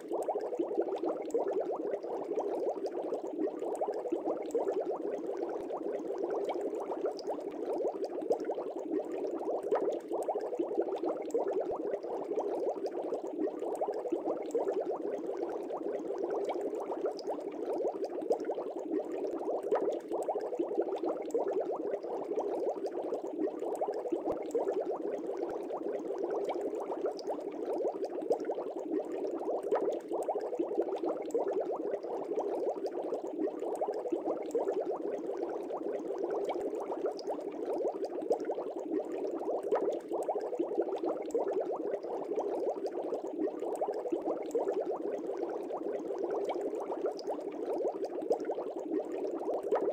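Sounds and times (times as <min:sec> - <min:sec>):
aquarium water bubbling: 0:00.0 - 0:49.9.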